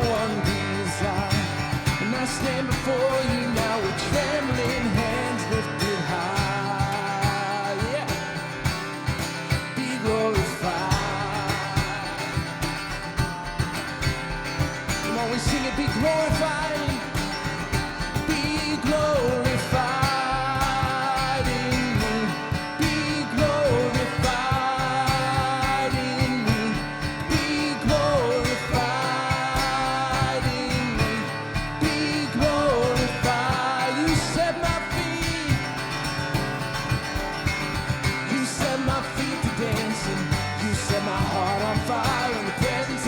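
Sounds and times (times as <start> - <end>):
worship song with guitar: 0.0 - 43.0.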